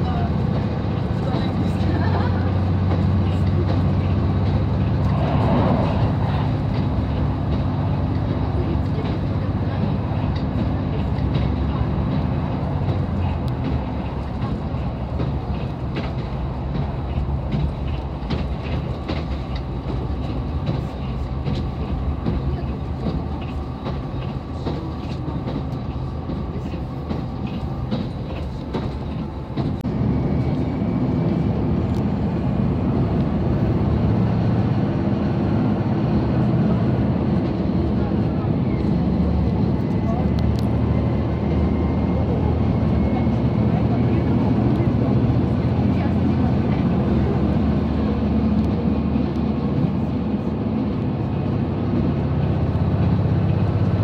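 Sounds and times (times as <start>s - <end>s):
diesel engine running: 0.0s - 54.0s
wheels clicking over rail joints: 0.0s - 54.0s.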